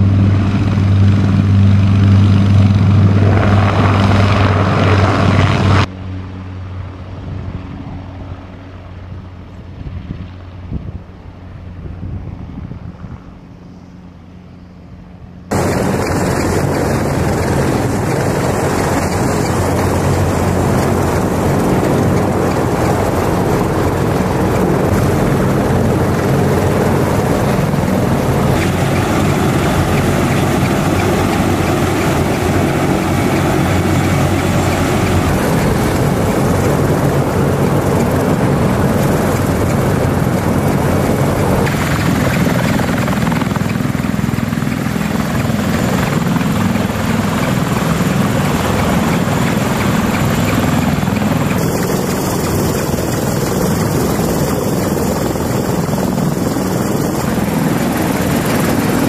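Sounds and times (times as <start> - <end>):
helicopter rotors and turbines: 0.0 - 59.0.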